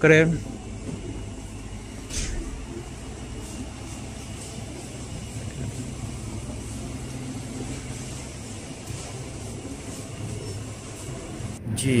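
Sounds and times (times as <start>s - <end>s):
refrigerated freezers humming: 0.0s - 12.0s
ventilation running: 0.0s - 12.0s.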